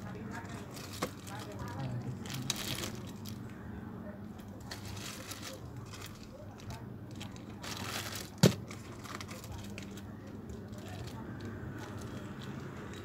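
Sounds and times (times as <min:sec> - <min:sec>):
plastic bags crinkling: 0:00.0 - 0:03.4, 0:04.6 - 0:13.0.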